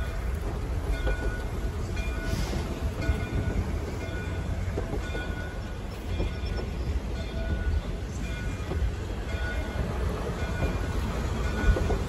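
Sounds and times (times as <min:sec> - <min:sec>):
rail joint clacks: 0:00.0 - 0:12.0
train wheels rumbling on rails: 0:00.0 - 0:12.0.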